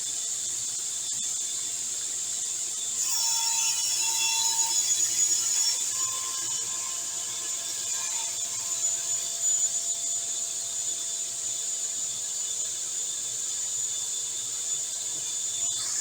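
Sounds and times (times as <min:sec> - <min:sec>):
table saw blade whining: 0:02.9 - 0:16.0.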